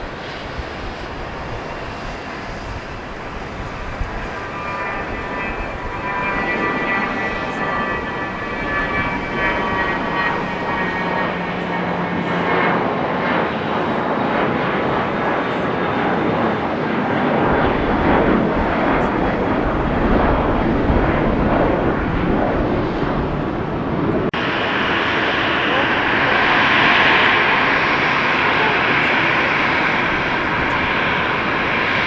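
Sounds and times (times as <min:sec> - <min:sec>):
jet engine roar: 0:00.0 - 0:32.0
jet engine whine: 0:00.0 - 0:32.0.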